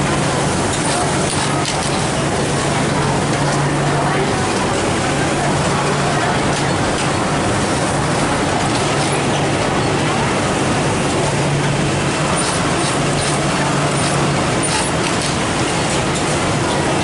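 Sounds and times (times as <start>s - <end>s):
industrial sewing machines running: 0.0s - 17.0s.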